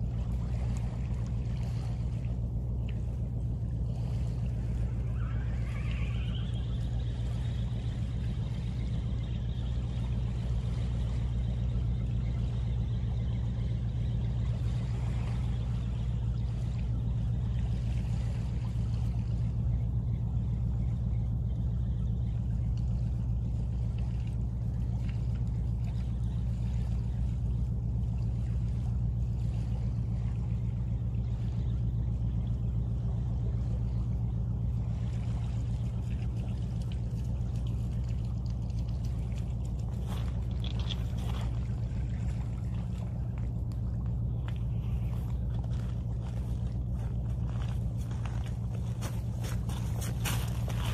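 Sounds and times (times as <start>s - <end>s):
low mechanical drone: 0.0s - 50.9s.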